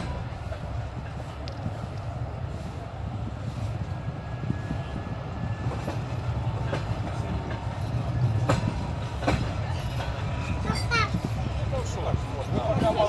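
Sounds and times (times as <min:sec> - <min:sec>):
train wheels rumbling: 0:00.0 - 0:13.0
wheels clicking over rail joints: 0:00.0 - 0:13.0.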